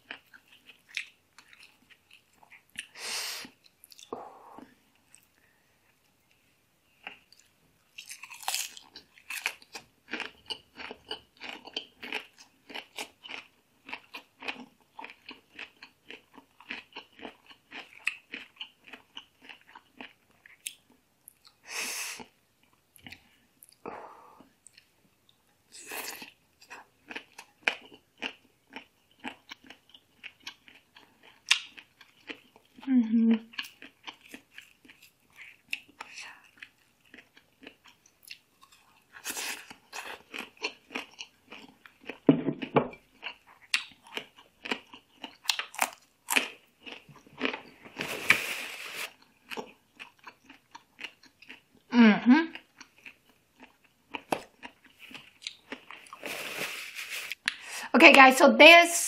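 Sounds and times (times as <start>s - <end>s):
crunchy chewing: 0.0s - 4.1s, 6.3s - 21.6s, 25.8s - 32.9s, 33.5s - 51.9s, 52.5s - 57.6s.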